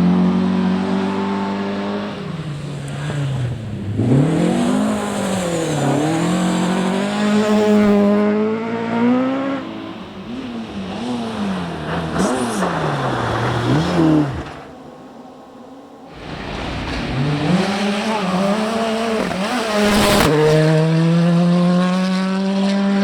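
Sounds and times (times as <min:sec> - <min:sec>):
rally car engine revving: 0:00.0 - 0:15.4, 0:16.1 - 0:23.0.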